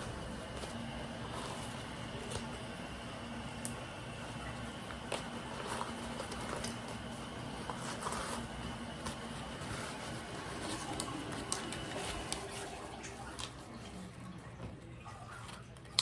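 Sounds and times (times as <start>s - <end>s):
packaging rustling: 0.0s - 14.1s
low background hum: 0.0s - 16.0s.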